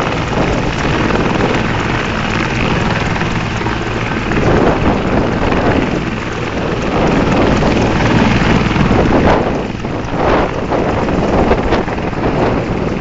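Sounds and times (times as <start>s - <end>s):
helicopter engines and rotor: 0.0s - 13.0s
wind noise on microphone: 0.0s - 13.0s.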